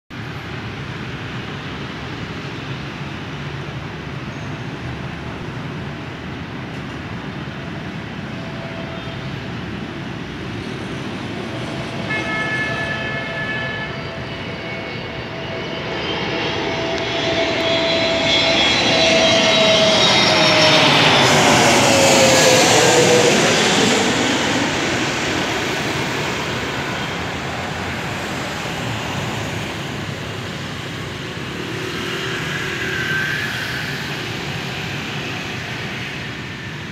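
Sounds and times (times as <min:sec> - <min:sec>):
jet airliner passing overhead: 0:00.2 - 0:36.9.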